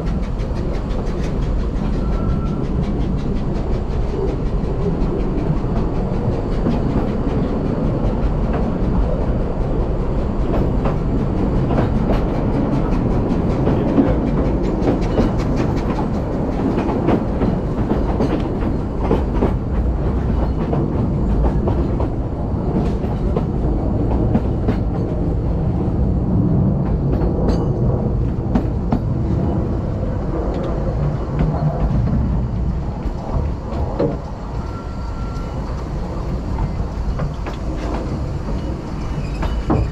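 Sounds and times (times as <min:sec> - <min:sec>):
train wheels clickety-clack on rails: 0:00.0 - 0:39.9.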